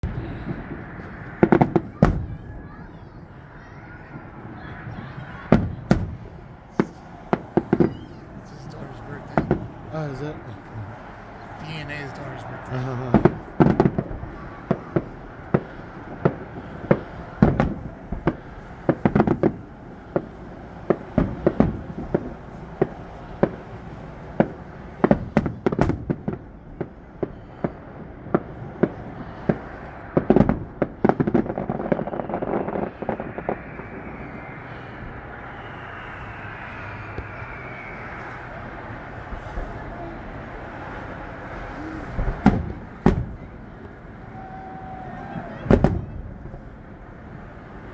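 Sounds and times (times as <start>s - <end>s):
fireworks bangs with echo: 0.0s - 47.9s
fireworks crackling volley: 0.0s - 47.9s.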